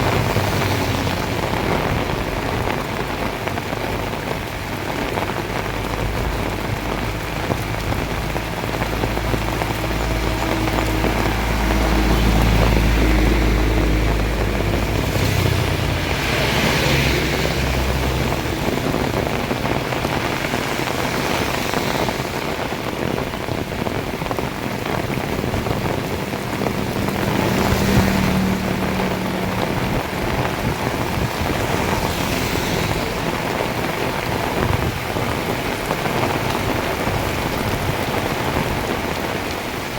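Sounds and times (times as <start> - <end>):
low rumble: 0.0 - 35.8
heavy rain pouring: 0.0 - 39.9.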